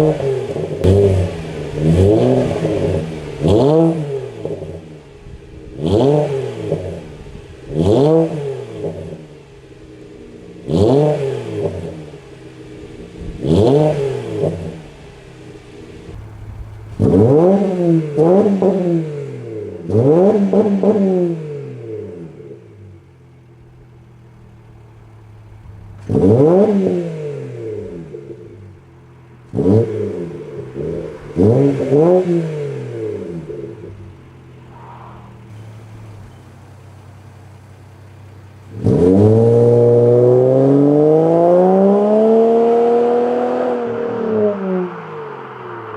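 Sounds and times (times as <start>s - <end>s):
car engine revving and idling: 0.0s - 45.9s.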